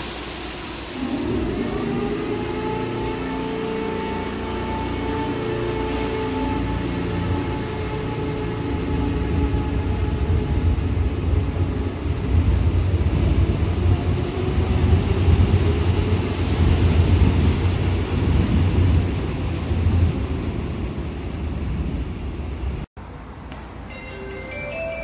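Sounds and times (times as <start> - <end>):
electric train rumbling past: 0.0 - 25.0.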